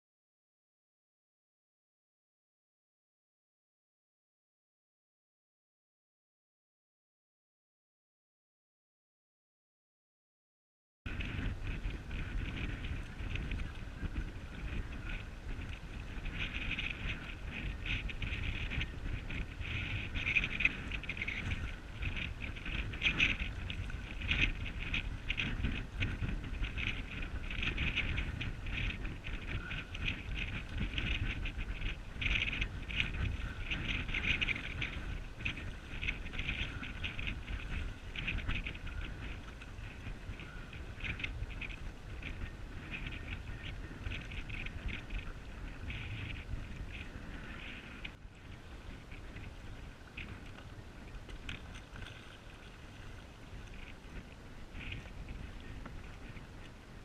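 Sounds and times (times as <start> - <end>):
water splashing and lapping: 11.1 - 57.0
wind rumble on microphone: 11.1 - 57.0.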